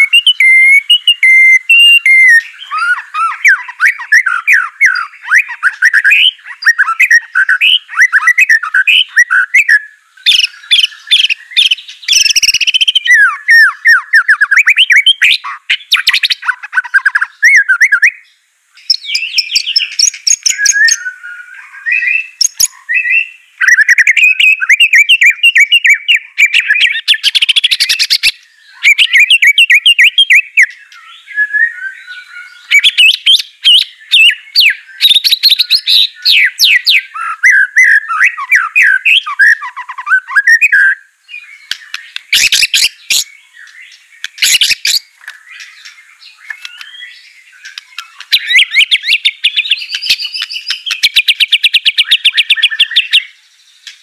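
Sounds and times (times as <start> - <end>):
bird singing whistled phrases: 0.0 - 54.0.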